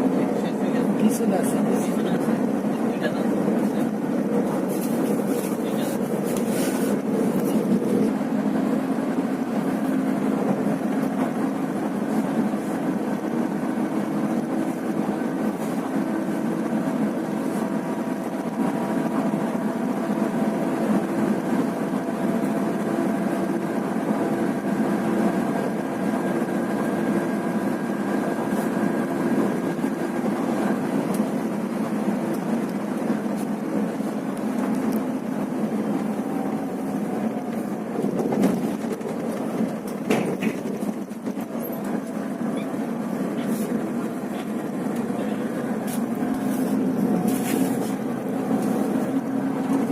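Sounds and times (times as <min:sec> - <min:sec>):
bus engine drone: 0:00.0 - 0:49.9
road noise: 0:00.0 - 0:49.9.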